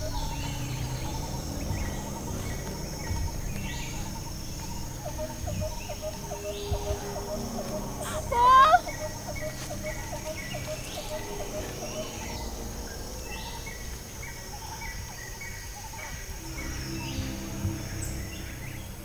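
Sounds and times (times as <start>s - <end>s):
bird high chirp: 0.0s - 19.0s
low background hum: 0.0s - 19.0s.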